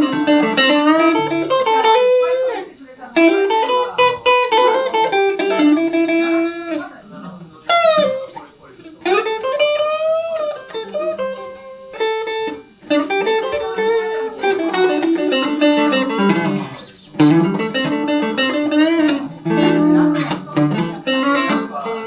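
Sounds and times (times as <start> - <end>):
electric guitar blues fill: 0.0 - 22.0.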